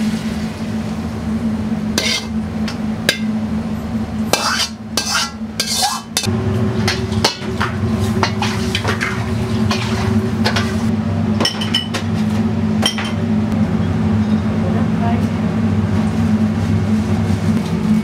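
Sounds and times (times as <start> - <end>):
kitchen equipment hum: 0.0 - 18.0.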